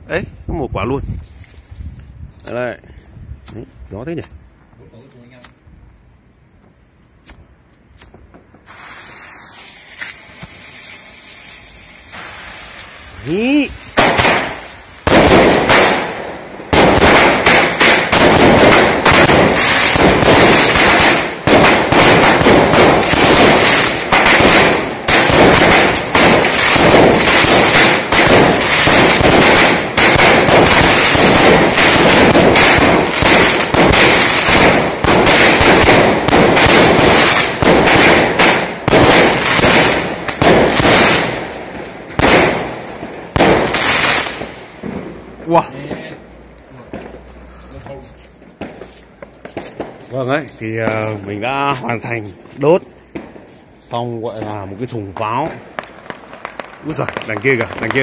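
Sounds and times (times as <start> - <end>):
fireworks launching and crackling: 6.7 - 58.0.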